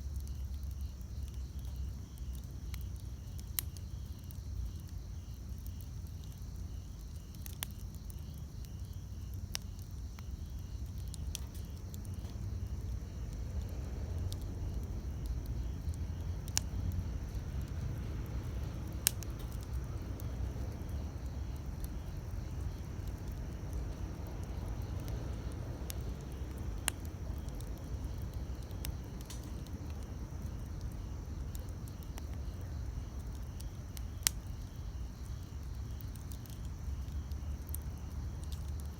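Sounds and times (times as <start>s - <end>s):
campfire rumble: 0.0s - 38.9s
crickets chirring: 0.0s - 38.9s
wood crackling and popping: 0.0s - 38.9s.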